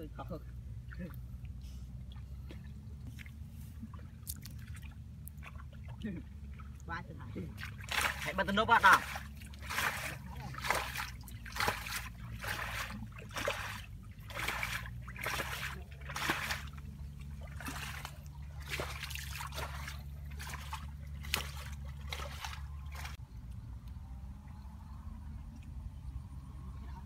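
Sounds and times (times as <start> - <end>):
muddy water splashing: 0.0 - 23.2
steady low hum: 0.0 - 27.0.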